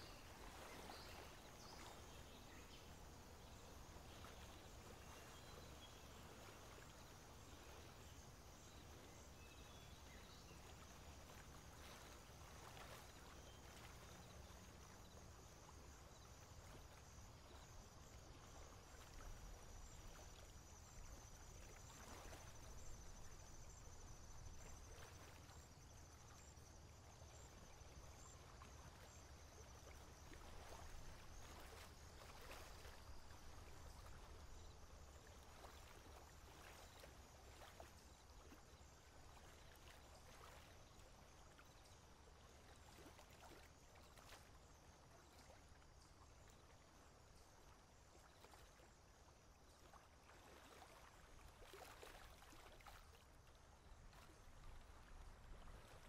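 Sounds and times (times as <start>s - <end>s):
faint outdoor hiss: 0.0s - 56.0s.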